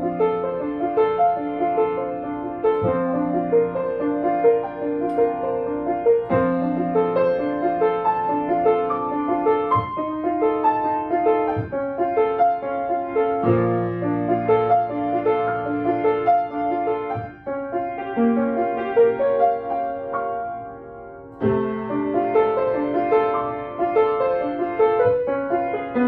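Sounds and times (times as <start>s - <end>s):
solo grand piano: 0.0s - 26.0s.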